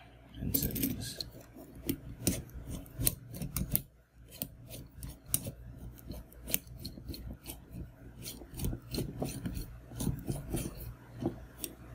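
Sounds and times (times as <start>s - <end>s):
threads clicking and scraping: 0.5s - 11.9s.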